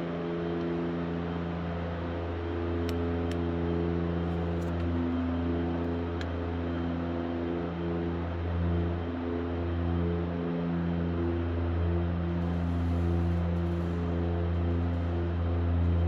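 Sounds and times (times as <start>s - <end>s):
slow sustained background chords: 0.0s - 16.0s.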